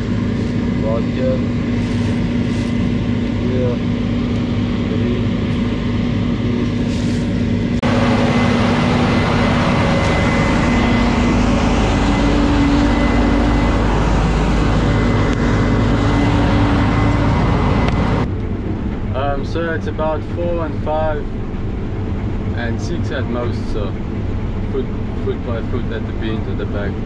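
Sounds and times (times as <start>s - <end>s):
combine harvester engine hum: 0.0s - 27.0s
high whine: 0.0s - 27.0s.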